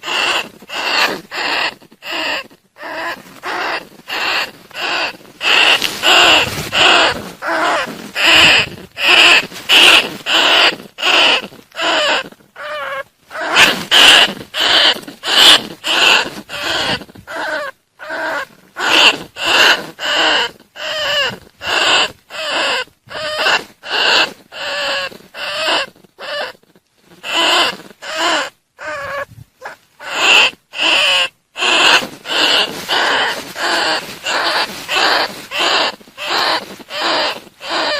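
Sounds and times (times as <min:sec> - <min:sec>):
rat squeaking calls: 0:00.0 - 0:37.9.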